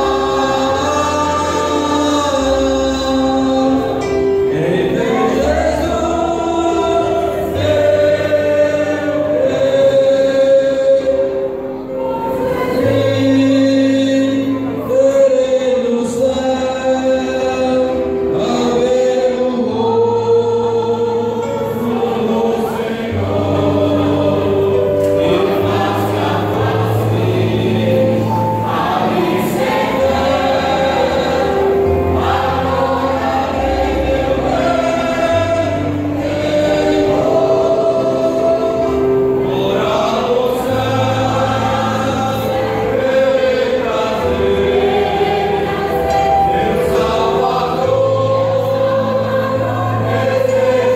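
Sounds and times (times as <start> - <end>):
mixed choir singing: 0.0 - 50.9.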